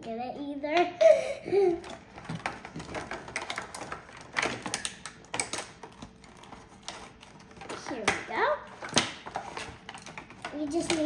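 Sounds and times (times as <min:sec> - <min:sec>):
plastic packaging crackling: 0:01.6 - 0:11.0.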